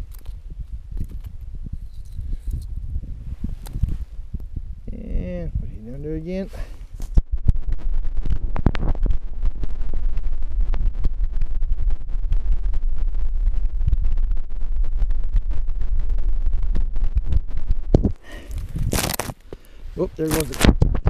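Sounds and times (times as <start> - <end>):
small clicks and crackles: 0.0 - 2.8, 3.6 - 4.0, 7.0 - 21.0
wind buffeting microphone: 0.0 - 21.0.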